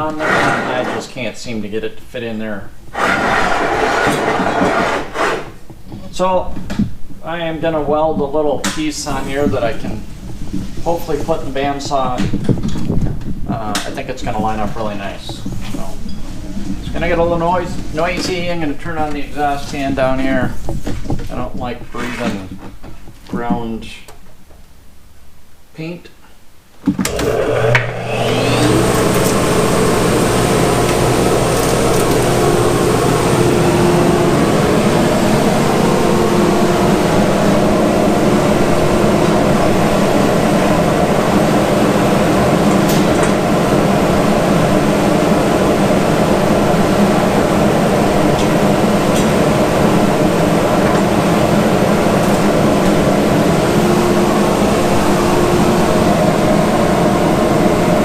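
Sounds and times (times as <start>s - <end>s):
exhaust fan motor drone: 0.0s - 22.5s, 27.1s - 58.0s.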